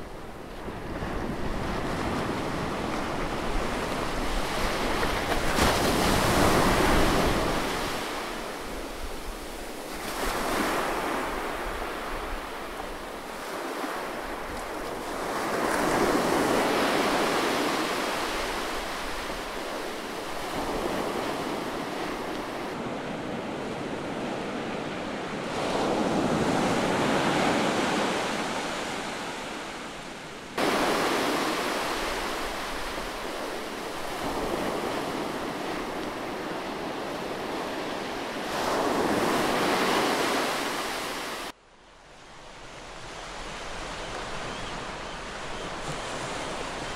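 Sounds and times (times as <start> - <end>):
ocean surf breaking: 0.0 - 41.6.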